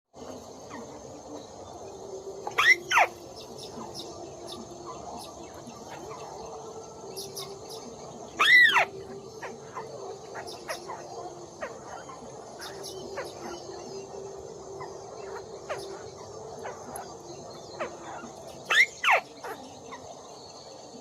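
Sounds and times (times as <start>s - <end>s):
high insect drone: 0.2s - 21.0s
bird call rising and falling: 1.9s - 20.0s.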